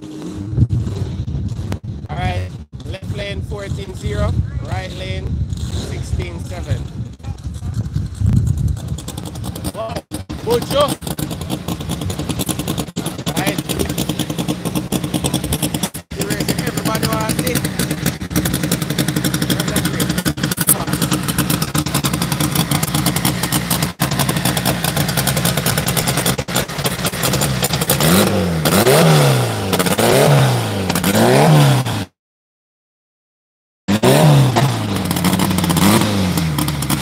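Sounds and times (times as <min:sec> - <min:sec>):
race car engine idling and revving: 0:00.0 - 0:32.2, 0:33.9 - 0:37.0.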